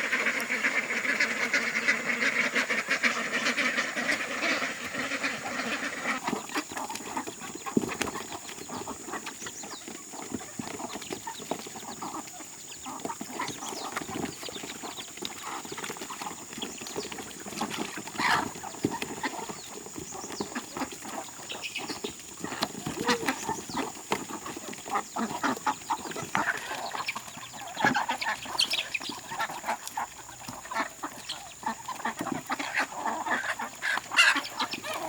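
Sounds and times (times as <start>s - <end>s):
chickens clucking: 0.0s - 35.0s
ducks calling: 0.0s - 35.0s.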